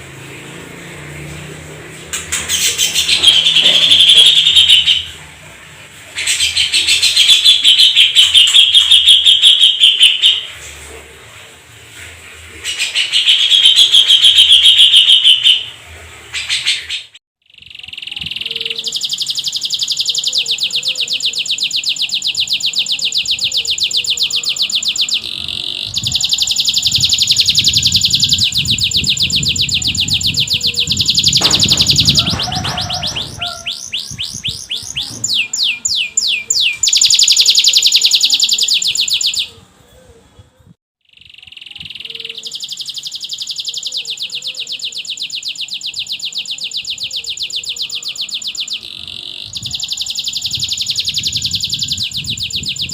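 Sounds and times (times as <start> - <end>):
canary singing rolling trills: 2.2 - 11.1, 12.6 - 40.4, 41.0 - 52.9.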